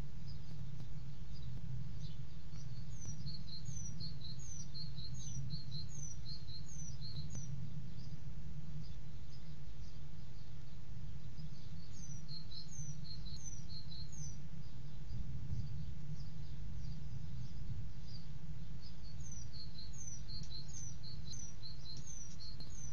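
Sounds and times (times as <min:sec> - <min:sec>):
bird chirping: 0:00.0 - 0:22.9
steady low hum: 0:00.0 - 0:22.9.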